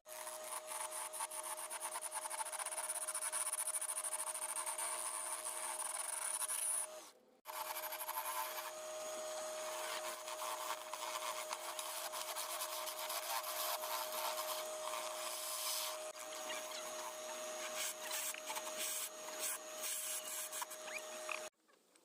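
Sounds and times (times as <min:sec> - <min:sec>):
tool scraping wood: 0:00.1 - 0:08.8, 0:09.4 - 0:21.5.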